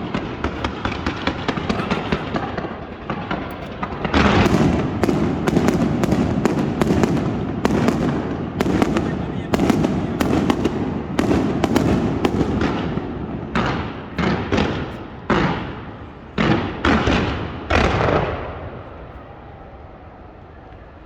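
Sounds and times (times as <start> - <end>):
fireworks bangs and booms: 0.0 - 19.1.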